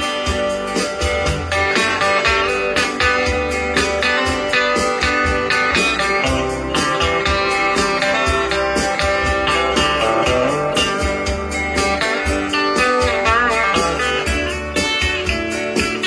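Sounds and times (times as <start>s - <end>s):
bass line: 0.0s - 16.0s
electric guitar country tune: 0.0s - 16.0s
steady beat: 0.0s - 16.0s.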